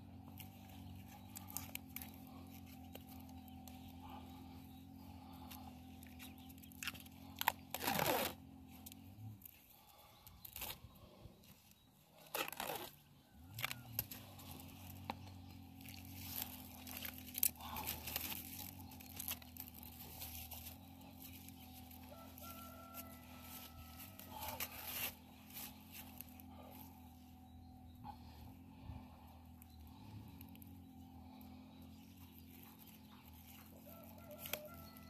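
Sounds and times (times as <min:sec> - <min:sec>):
low hum: 0:00.0 - 0:35.0
crunching and tearing handling sounds: 0:00.2 - 0:26.9, 0:32.5 - 0:35.0.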